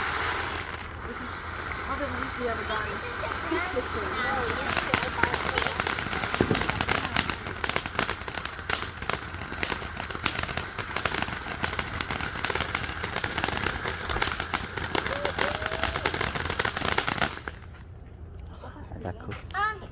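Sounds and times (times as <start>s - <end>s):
firework fountain hissing and crackling: 0.0s - 17.8s.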